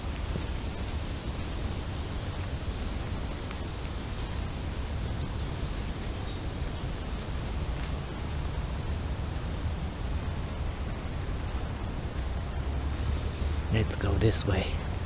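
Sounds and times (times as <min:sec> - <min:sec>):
wind buffeting microphone: 0:00.0 - 0:13.9.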